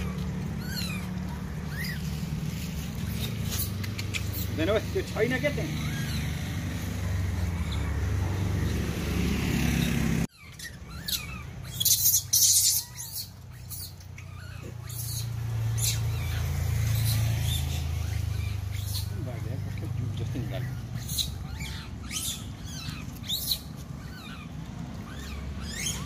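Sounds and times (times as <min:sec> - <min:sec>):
monkeys crunching food: 0:00.0 - 0:09.2, 0:09.9 - 0:26.0.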